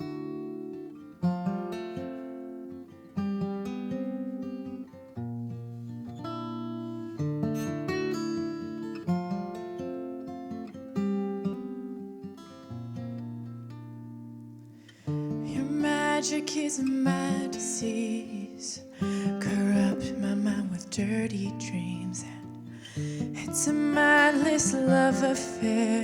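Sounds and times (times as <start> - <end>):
acoustic guitar chords ringing: 0.0 - 26.0.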